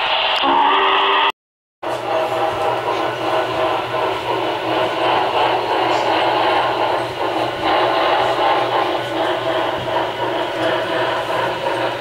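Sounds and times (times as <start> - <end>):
steam engine sound from small speaker: 0.0 - 12.0.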